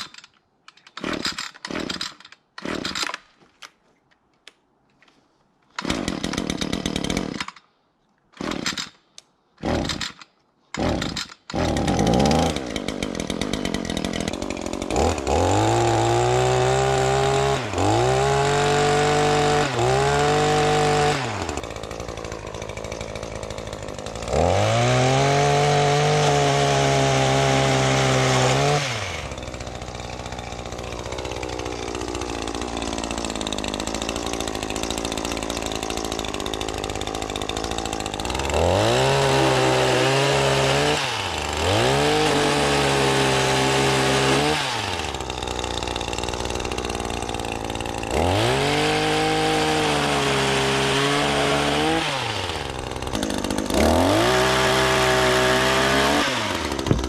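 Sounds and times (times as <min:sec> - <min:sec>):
chainsaw revving: 0:00.9 - 0:03.2, 0:05.8 - 0:07.6, 0:08.4 - 0:08.9, 0:09.6 - 0:10.2, 0:10.8 - 0:57.0.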